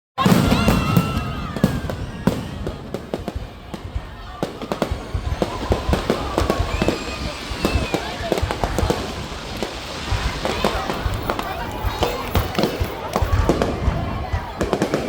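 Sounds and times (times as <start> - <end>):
fireworks bangs and crackles: 0.2 - 15.0.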